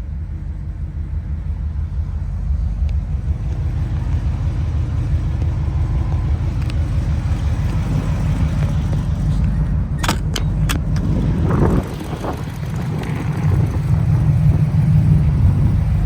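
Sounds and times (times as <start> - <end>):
engine idling low rumble: 0.0 - 16.0.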